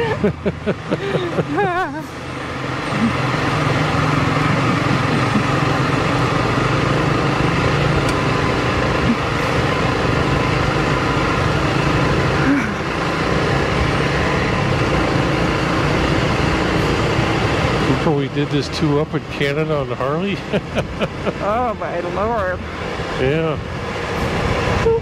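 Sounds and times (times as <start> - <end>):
motorcycle engine running: 0.0 - 23.8
wind and road noise: 0.0 - 25.0.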